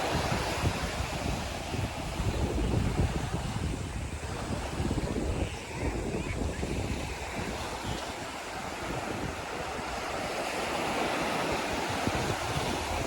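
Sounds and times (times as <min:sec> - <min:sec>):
sea waves on beach: 0:00.0 - 0:13.0
wind buffeting microphone: 0:00.0 - 0:13.0.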